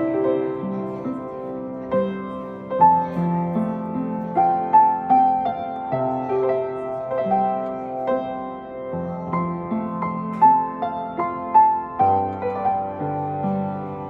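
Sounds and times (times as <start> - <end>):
solo piano melody: 0.0 - 14.0.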